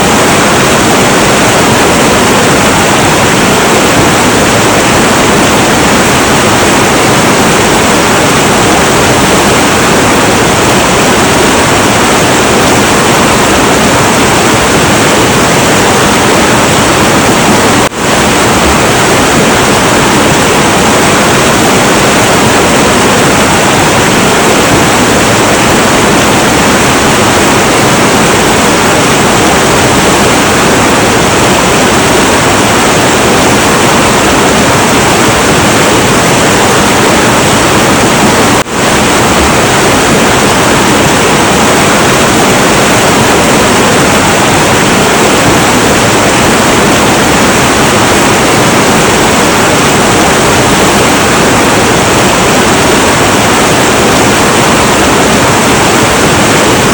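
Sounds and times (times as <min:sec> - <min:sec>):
turbulent river rushing: 0:00.0 - 0:56.9.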